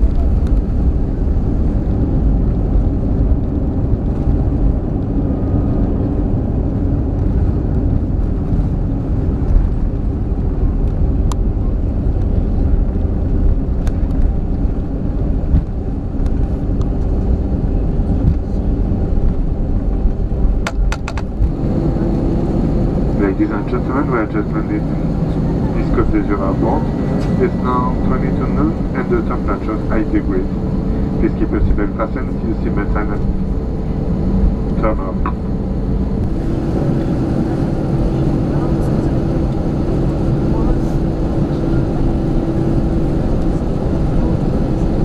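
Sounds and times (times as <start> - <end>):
airplane cabin engine rumble: 0.0 - 45.0.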